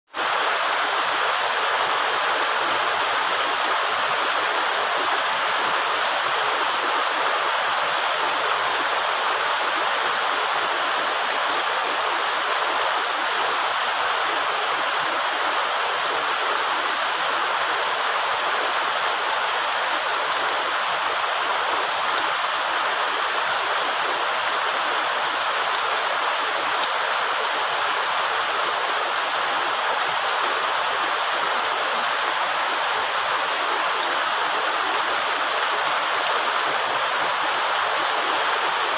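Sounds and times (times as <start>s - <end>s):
steady rain falling: 0.1s - 38.9s.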